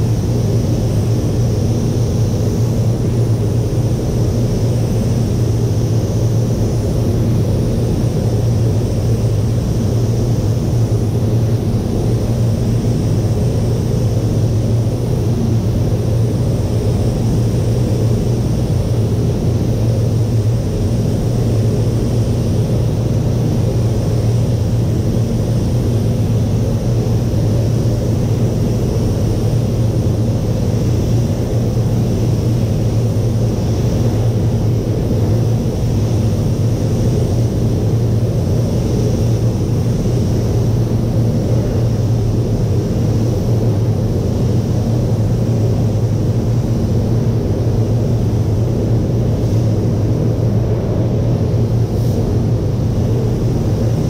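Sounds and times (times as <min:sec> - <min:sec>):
ventilation fans rushing air: 0:00.0 - 0:54.0.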